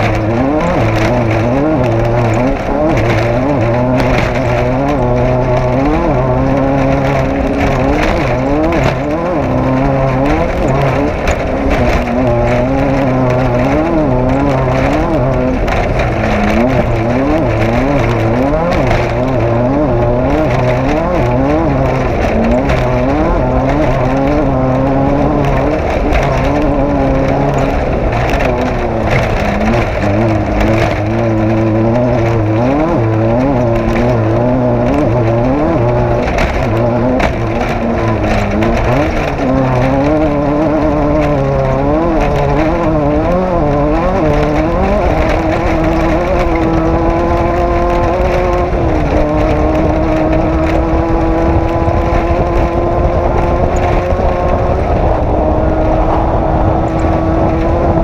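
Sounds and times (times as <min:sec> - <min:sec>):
race vehicle engine revving: 0:00.0 - 0:58.0
rattling and road noise: 0:00.0 - 0:58.0.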